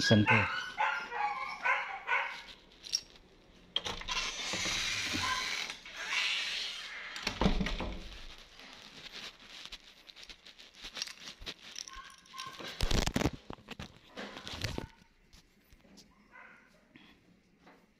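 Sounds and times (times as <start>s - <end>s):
rustling and crinkling: 0.0s - 4.3s, 5.1s - 17.9s.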